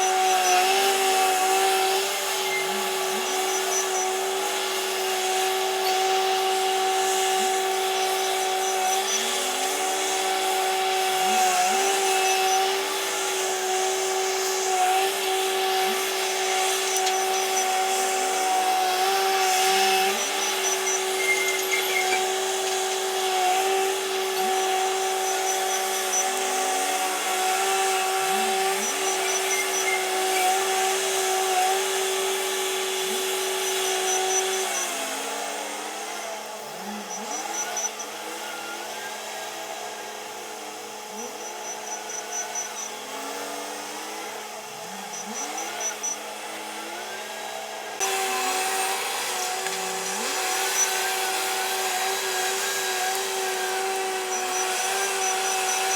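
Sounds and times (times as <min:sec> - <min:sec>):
wheel loader engine whine: 0:00.0 - 0:55.9.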